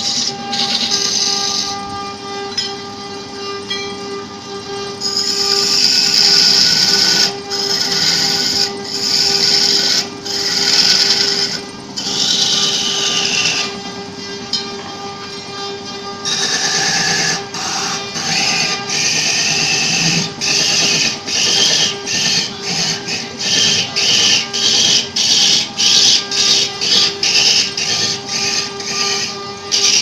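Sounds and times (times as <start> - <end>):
wood lathe humming: 0.0 - 30.0.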